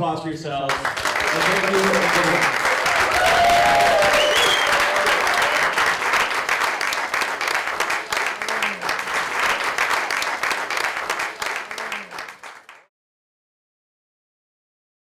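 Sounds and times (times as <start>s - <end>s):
audience applauding: 0.7s - 12.9s.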